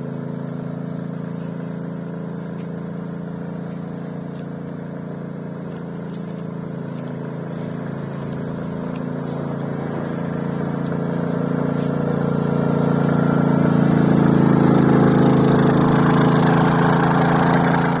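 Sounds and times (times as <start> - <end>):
generator running steadily: 0.0 - 18.0.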